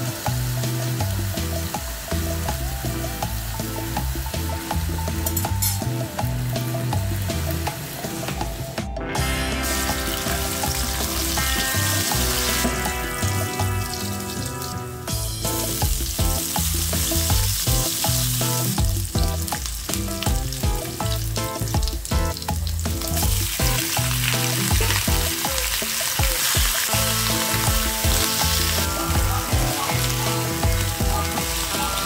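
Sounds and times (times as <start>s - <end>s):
background music: 0.0s - 32.0s
food sizzling in oil: 0.0s - 32.0s.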